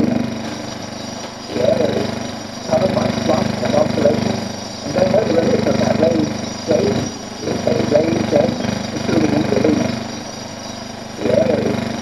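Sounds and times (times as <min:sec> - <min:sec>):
muffled voices: 0:00.0 - 0:00.6, 0:01.5 - 0:10.3, 0:11.2 - 0:12.0
film projector rattling hum: 0:00.0 - 0:12.0.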